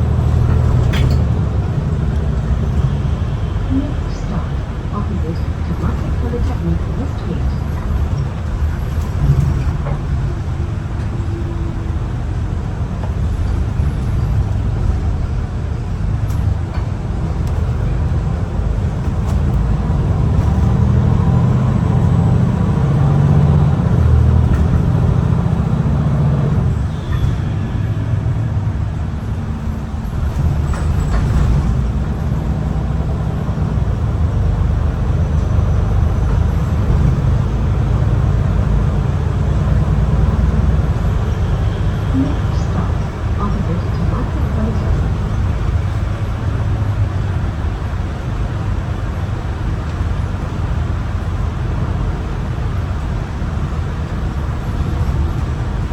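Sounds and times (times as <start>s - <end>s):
bus diesel engine under load: 0.0s - 55.9s.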